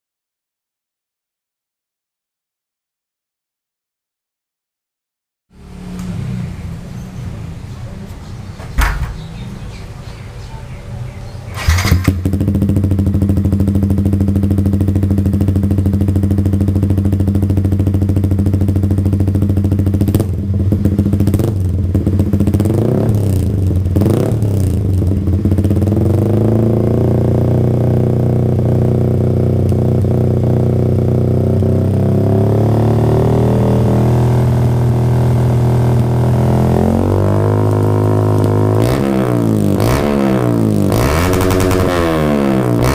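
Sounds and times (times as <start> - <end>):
motorcycle engine idling and revving: 5.5 - 42.9.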